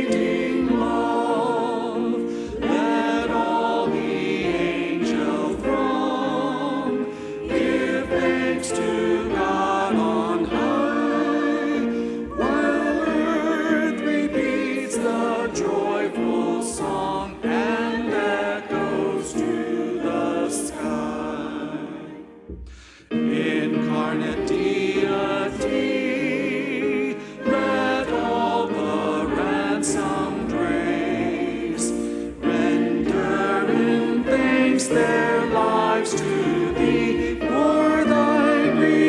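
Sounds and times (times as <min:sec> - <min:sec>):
choir and congregation singing a hymn: 0:00.0 - 0:39.0.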